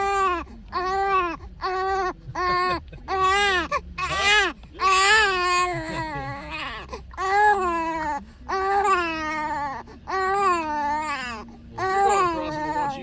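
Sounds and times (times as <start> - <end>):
baby crying: 0.0 - 13.0.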